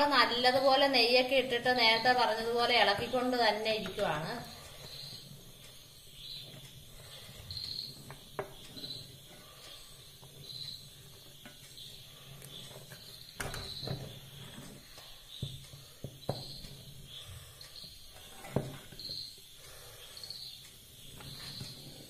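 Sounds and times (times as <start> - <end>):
wooden spatula scraping steel pot: 0.4 - 17.2, 18.1 - 19.2.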